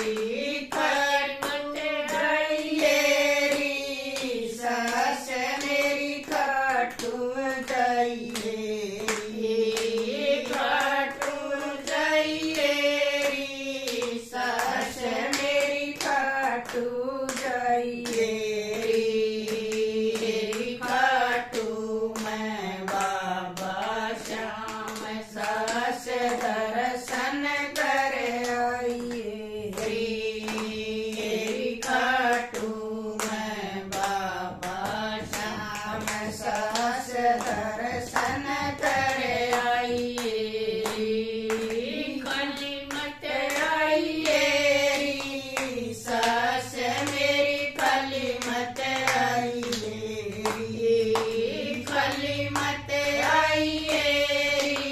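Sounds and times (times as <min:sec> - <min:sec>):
hand claps: 0:00.0 - 0:54.9
women singing together: 0:00.0 - 0:54.9.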